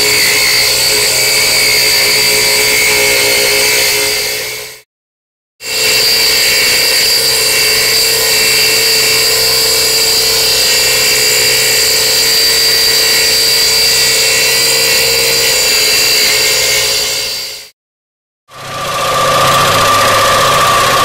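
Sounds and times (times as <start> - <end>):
scroll saw cutting wood: 0.0 - 4.9, 5.6 - 17.8, 18.6 - 21.0.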